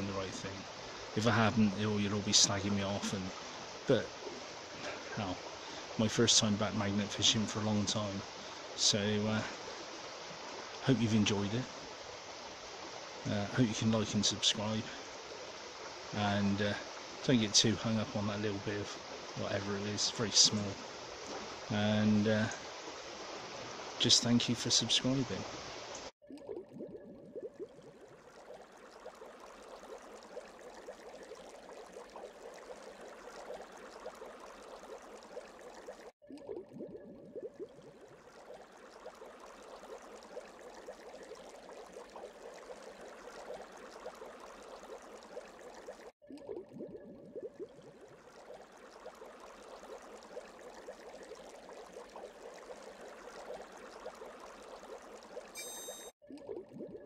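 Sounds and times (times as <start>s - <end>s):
river water babbling: 0.0s - 26.1s, 27.6s - 36.1s, 37.5s - 46.1s, 47.6s - 55.6s.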